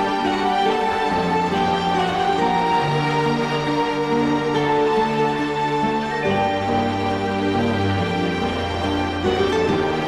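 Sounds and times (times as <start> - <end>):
slow tender instrumental music: 0.0 - 10.0.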